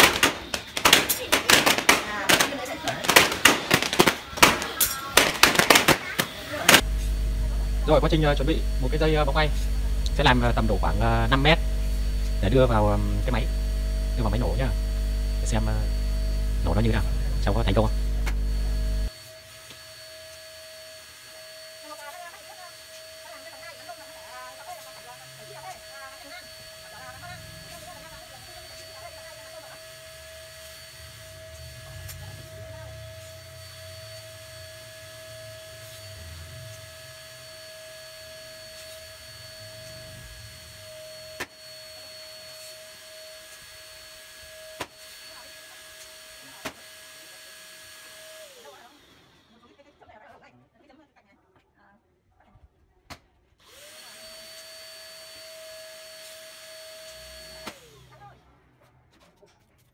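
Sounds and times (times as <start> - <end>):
electric balloon pump humming: 0.0 - 49.5, 53.6 - 58.1
thin steady whine: 0.0 - 50.2.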